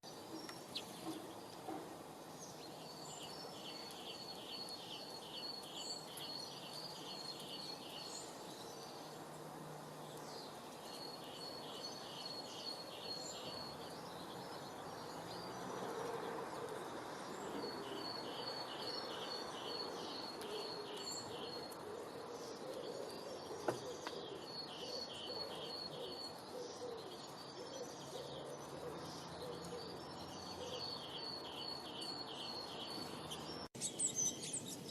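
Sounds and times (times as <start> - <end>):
outdoor background hiss: 0.0 - 34.9.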